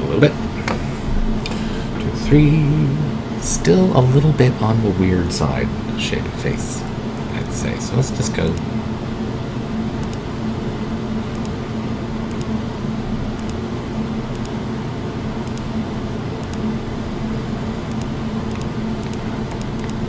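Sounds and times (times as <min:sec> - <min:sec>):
laundry machine humming: 0:00.0 - 0:20.0.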